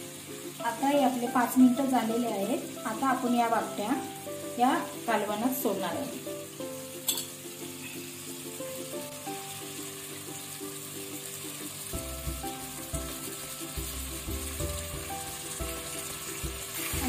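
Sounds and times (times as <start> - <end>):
light background music: 0.0 - 17.0
masala sizzling in a pan: 0.0 - 17.0.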